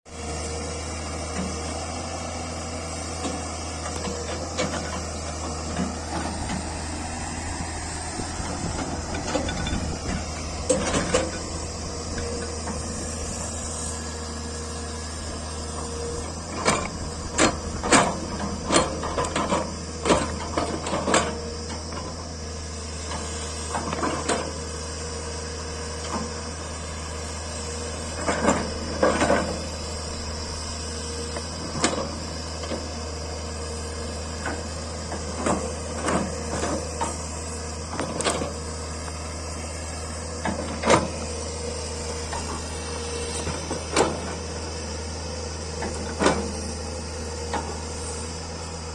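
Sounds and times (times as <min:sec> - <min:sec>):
diesel engine running: 0:00.1 - 0:48.9.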